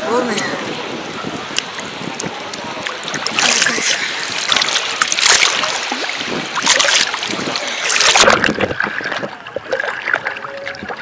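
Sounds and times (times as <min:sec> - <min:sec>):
waves splashing against microphone: 0:00.0 - 0:11.0.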